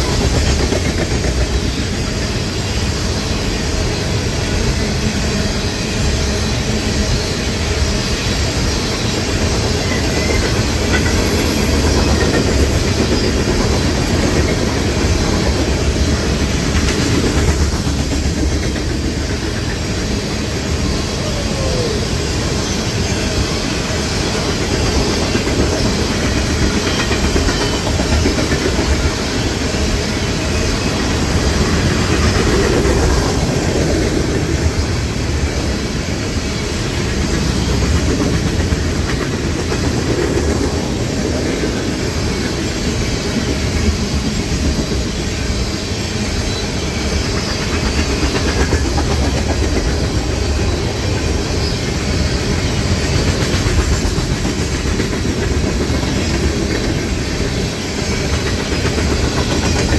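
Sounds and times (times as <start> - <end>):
train wheels clicking over rail joints: 0.0 - 59.9.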